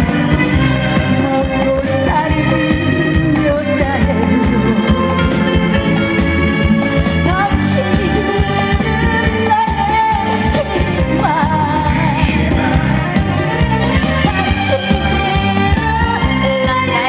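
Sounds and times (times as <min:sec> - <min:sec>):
amplified instrumental backing: 0:00.0 - 0:17.0
person singing: 0:00.0 - 0:17.0.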